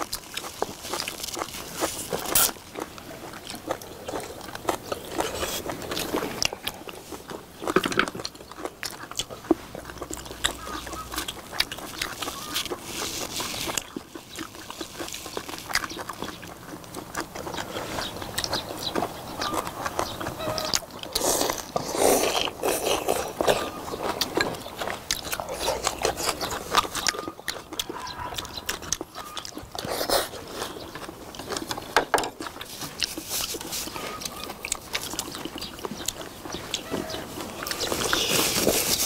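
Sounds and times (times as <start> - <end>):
people chewing: 0.0 - 39.0.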